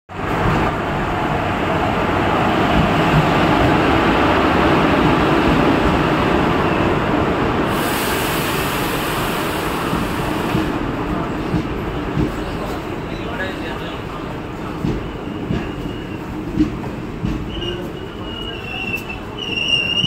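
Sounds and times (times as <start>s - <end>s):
train rumbling and rattling on rails: 0.1s - 20.0s.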